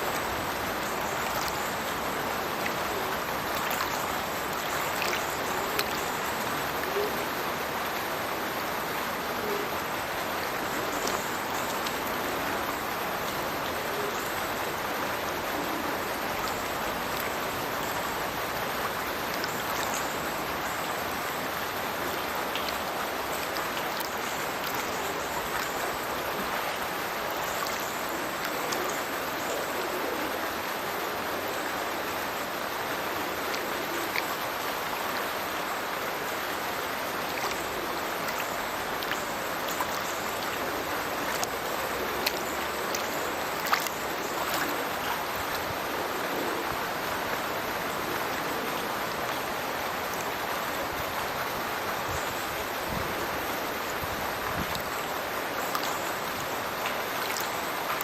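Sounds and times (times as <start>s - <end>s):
water pouring from culvert: 0.0s - 58.0s.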